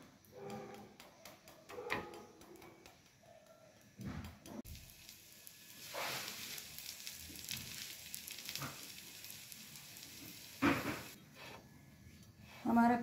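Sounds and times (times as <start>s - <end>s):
bread frying and sizzling: 2.4s - 12.9s.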